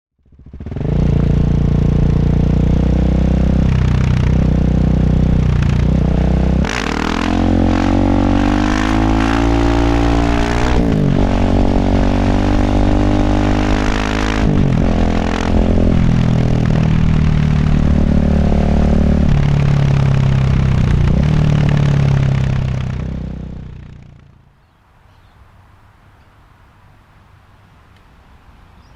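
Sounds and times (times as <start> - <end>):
motorcycle engine accelerating: 0.2 - 24.5.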